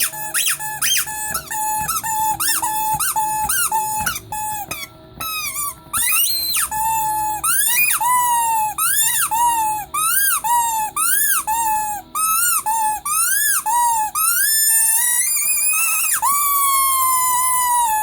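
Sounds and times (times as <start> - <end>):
rubber squeaky toy squeaking: 0.0 - 18.0.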